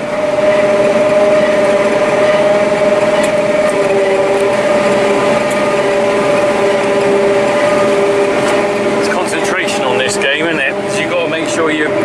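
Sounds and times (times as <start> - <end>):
constant machine whine: 0.0 - 12.0
harvester engine drone: 0.0 - 12.0.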